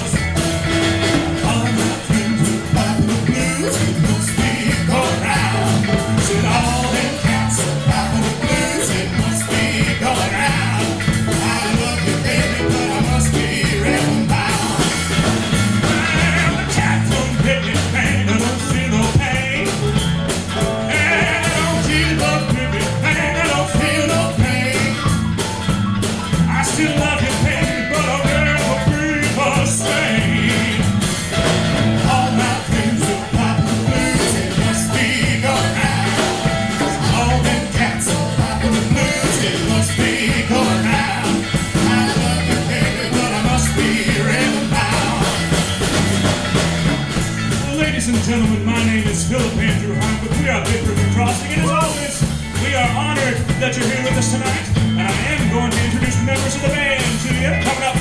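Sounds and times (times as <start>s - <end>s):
band playing rock and roll blues: 0.0s - 58.0s.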